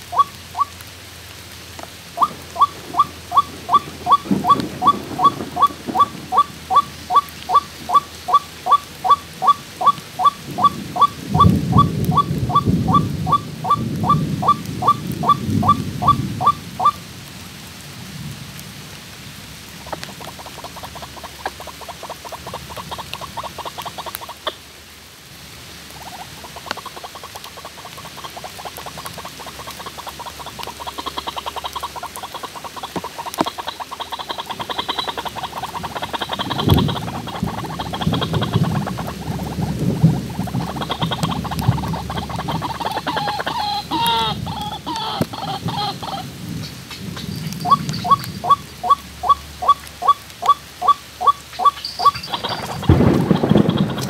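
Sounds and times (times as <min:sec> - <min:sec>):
waterhen calling: 0:00.0 - 0:17.1, 0:19.7 - 0:24.8, 0:25.8 - 0:54.0.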